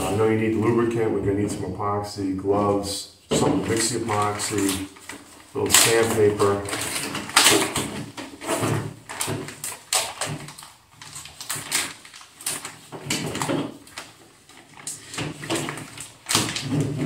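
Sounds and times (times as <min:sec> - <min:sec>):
packaging rustling and crackling: 0:03.3 - 0:17.0.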